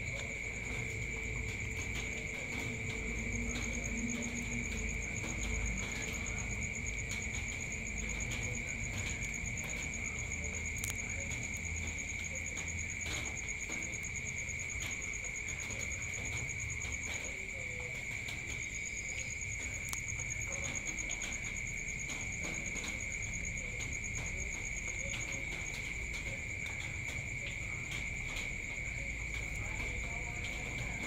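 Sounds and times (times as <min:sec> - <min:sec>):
crickets chirring: 0:00.0 - 0:31.0
faint ticks: 0:00.0 - 0:31.0.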